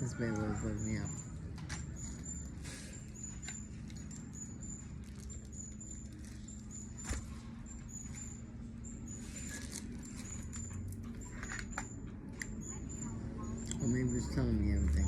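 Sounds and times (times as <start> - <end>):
high-pitched chirp: 0.0 - 15.0.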